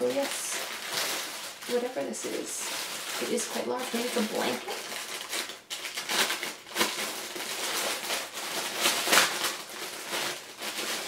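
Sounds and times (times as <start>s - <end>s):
plastic wrapping crackling: 0.0s - 11.0s.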